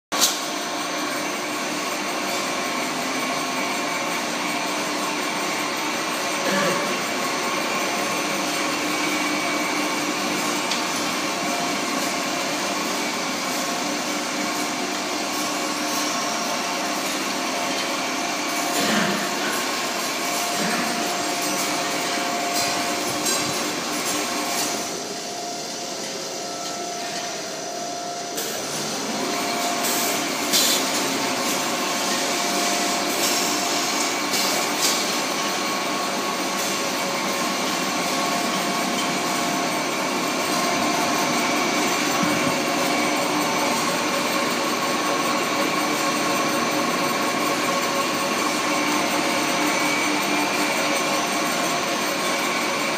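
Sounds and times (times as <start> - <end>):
wire coiler machine whirring: 0.1 - 52.9.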